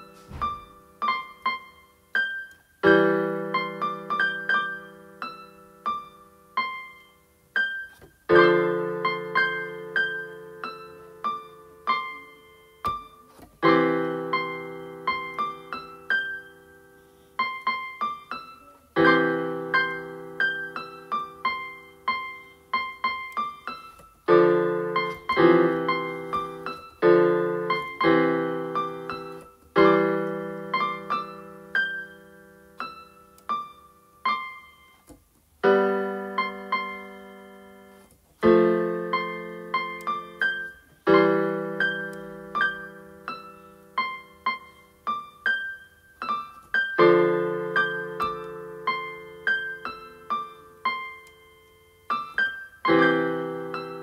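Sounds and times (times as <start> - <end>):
solo piano: 0.0 - 54.0.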